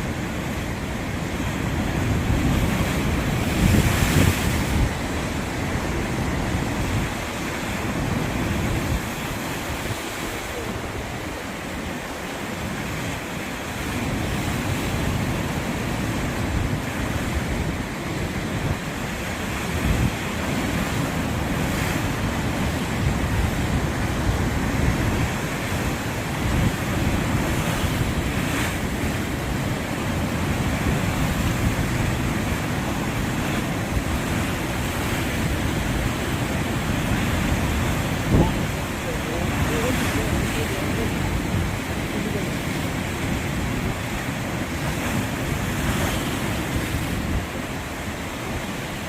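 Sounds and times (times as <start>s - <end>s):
sea waves washing in: 0.0s - 49.0s
wind buffeting the microphone: 0.0s - 49.0s.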